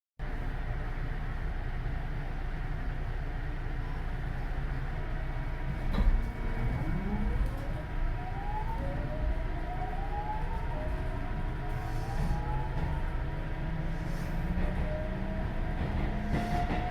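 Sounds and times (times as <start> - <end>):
train running rumble: 0.2 - 16.9.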